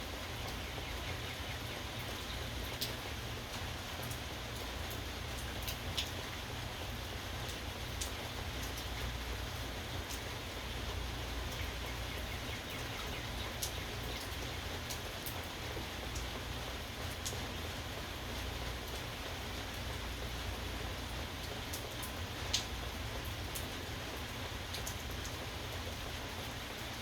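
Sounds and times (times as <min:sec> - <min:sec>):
steady rain falling: 0:00.0 - 0:27.0
rain drop ticks: 0:00.2 - 0:27.0.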